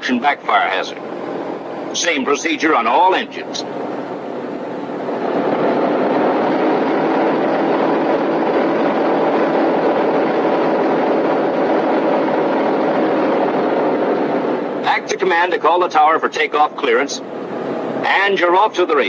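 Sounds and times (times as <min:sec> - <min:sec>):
radial aircraft engines droning: 0:00.0 - 0:19.0.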